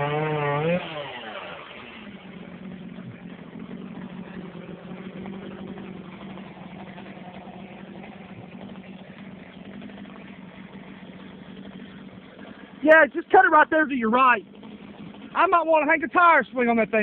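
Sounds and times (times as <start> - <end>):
chainsaw engine: 0.0 - 17.0.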